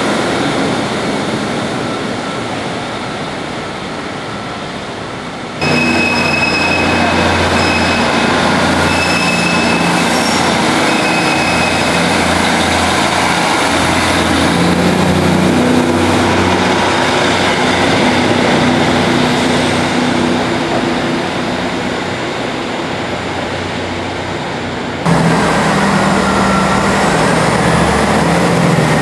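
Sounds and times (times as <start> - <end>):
train diesel engines humming: 0.0 - 29.0.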